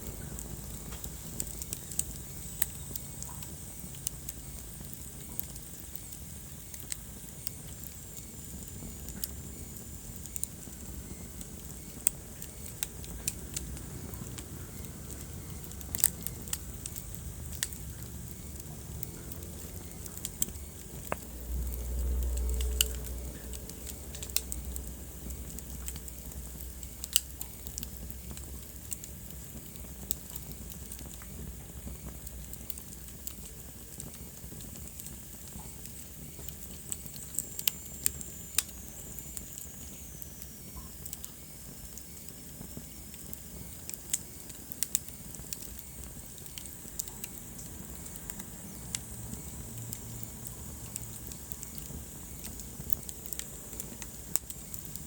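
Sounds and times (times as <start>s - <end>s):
low rumble of fire: 0.0s - 55.0s
wood fire crackling and popping: 0.0s - 55.0s.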